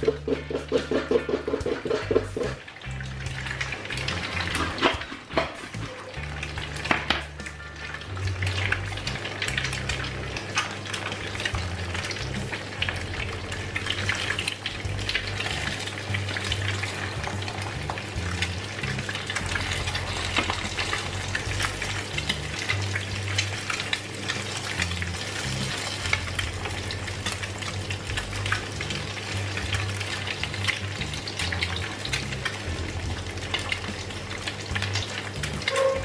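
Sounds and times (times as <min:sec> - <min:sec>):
eggs sizzling in frying pan: 0:00.0 - 0:36.0.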